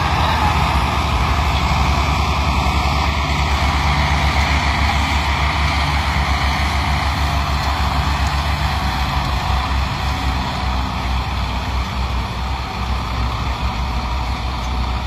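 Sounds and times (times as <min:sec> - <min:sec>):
tractor diesel engines running hard: 0:00.0 - 0:15.0.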